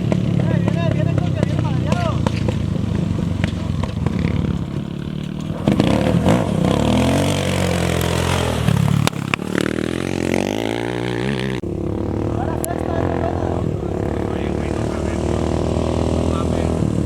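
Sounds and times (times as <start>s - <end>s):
racing engine revving: 0.0s - 17.0s.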